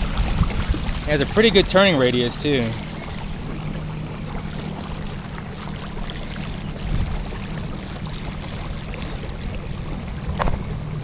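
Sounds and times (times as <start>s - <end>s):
steady low motor hum: 0.0s - 11.0s
water rushing along hull: 0.0s - 11.0s.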